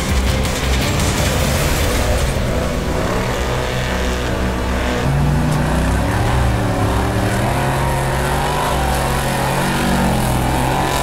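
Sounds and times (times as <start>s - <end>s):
truck engine running hard: 0.0s - 11.0s.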